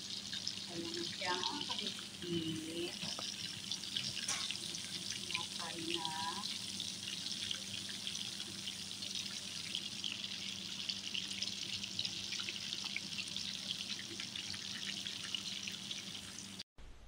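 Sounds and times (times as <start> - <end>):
shrimp deep-frying in hot oil: 0.0 - 16.6.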